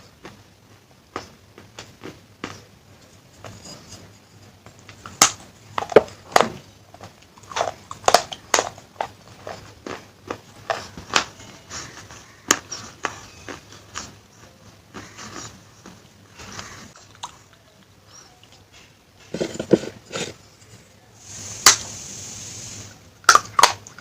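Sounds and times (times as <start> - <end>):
soft grinding chewing: 0.0 - 21.0.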